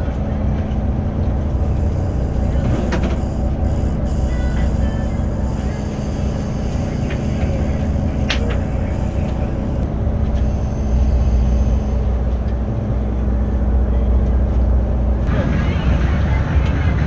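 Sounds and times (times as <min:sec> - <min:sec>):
boat engines droning: 0:00.0 - 0:17.0.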